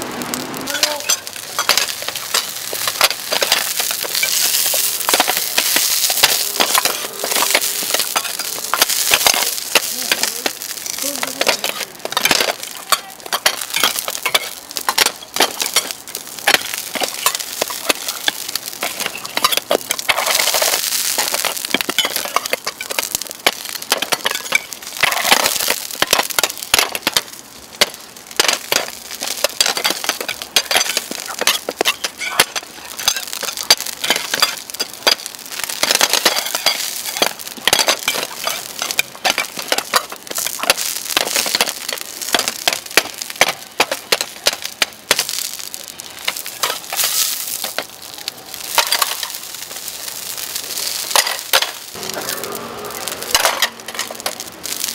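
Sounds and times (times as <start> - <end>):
frying hiss in hot oil: 0.0 - 54.9.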